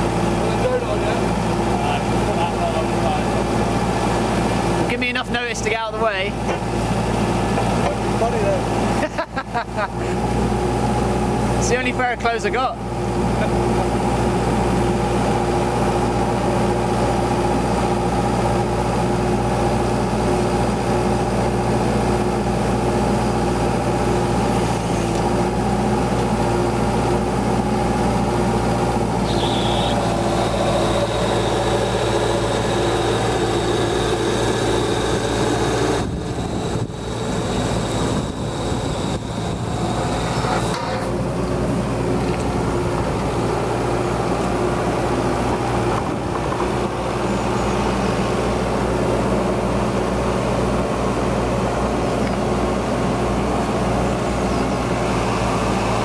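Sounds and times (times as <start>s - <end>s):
drilling rig running under load: 0.0s - 56.0s.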